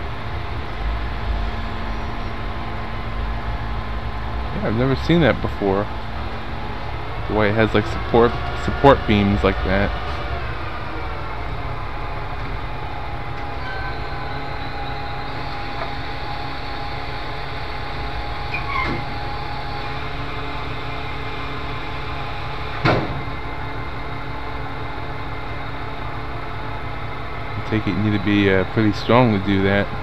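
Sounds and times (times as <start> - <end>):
engine idling rumble: 0.0 - 30.0.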